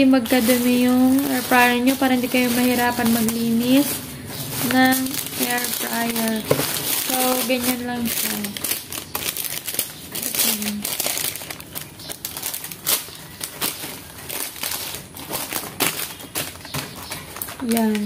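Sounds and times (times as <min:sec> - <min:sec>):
paper liner crinkling: 0:00.0 - 0:18.0.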